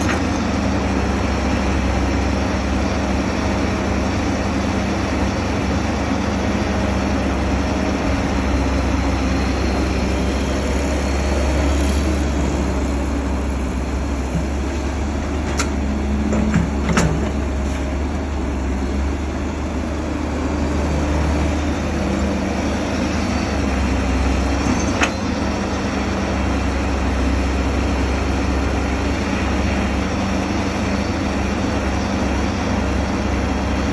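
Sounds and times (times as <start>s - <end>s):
heavy machine engine running: 0.0s - 33.9s.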